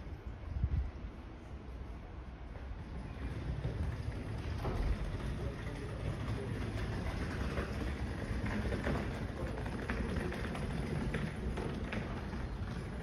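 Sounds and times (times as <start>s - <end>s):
city low rumble: 0.0s - 13.0s.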